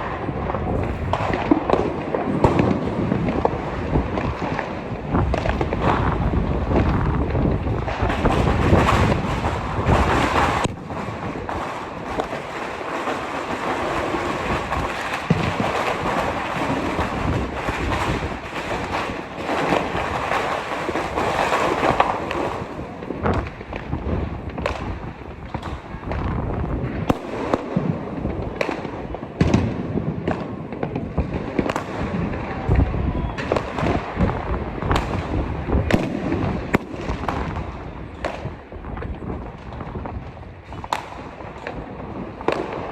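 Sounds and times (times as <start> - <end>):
firecrackers crackling: 0.0 - 42.9
firework bangs: 0.0 - 42.9.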